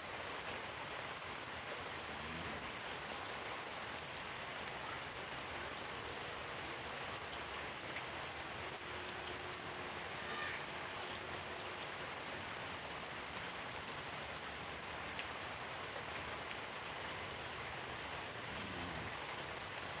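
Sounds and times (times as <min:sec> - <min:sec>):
rain hiss: 0:00.0 - 0:20.0.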